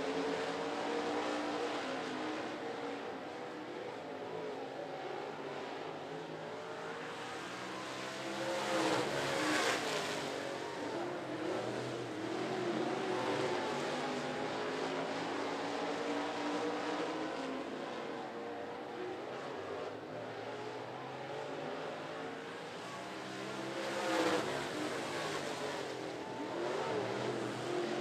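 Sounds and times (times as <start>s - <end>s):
race car engines at high revs: 0.0s - 28.0s.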